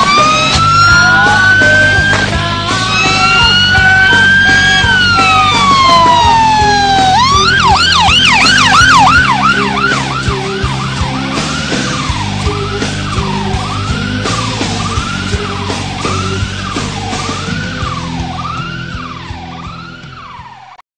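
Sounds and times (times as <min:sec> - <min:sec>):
rock music: 0:00.0 - 0:20.7
ambulance siren: 0:00.0 - 0:20.8.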